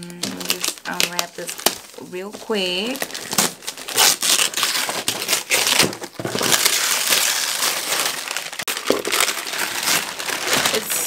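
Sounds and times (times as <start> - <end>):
wrapping paper ripping: 0.0 - 11.0
paper crinkling and rustling: 0.2 - 11.0.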